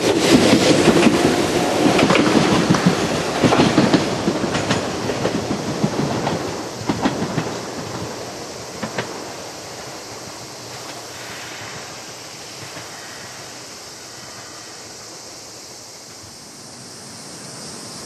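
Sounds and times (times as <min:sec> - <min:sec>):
distant electric train: 0:00.0 - 0:18.0
outdoor background hiss: 0:00.0 - 0:18.0.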